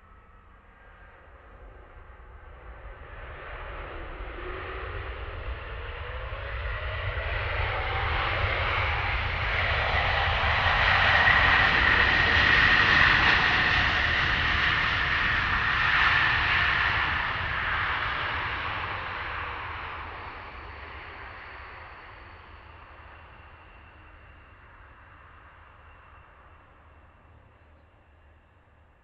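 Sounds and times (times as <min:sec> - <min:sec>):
jet engines roaring with whine: 0:00.0 - 0:29.0.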